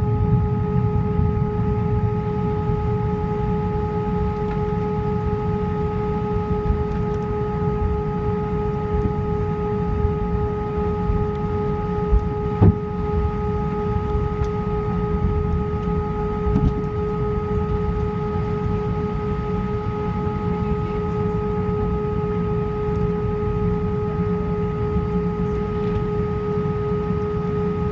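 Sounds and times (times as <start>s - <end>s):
jet engine whine: 0.0s - 27.9s
low cabin rumble: 0.0s - 27.9s.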